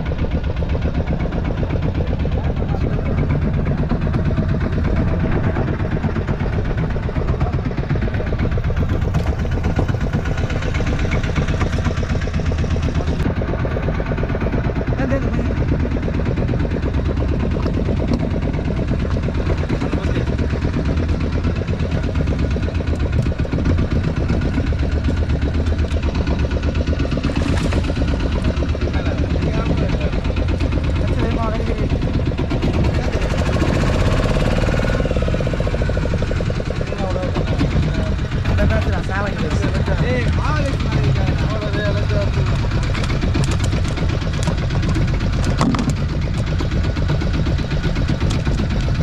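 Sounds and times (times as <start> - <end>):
boat engine running: 0.0 - 49.0.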